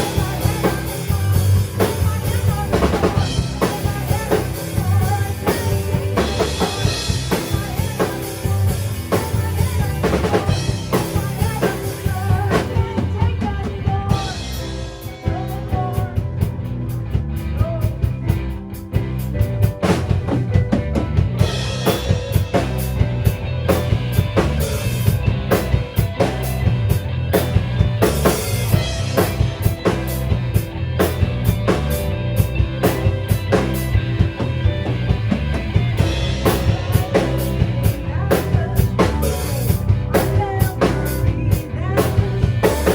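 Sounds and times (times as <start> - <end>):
bass: 0.0 - 42.9
drum kit beat: 0.0 - 42.9
electric guitars: 0.0 - 42.9
keyboards: 0.0 - 42.9.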